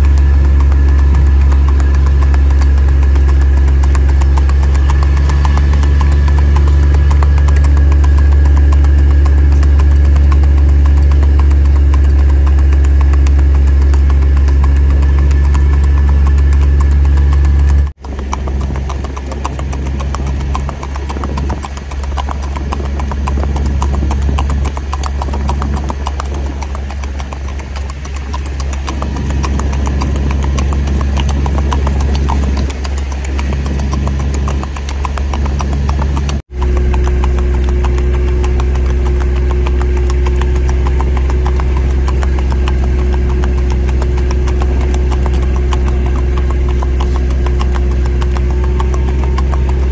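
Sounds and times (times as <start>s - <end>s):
hooves clip-clopping on asphalt: 0.0s - 49.9s
vehicle engine hum: 0.0s - 49.9s.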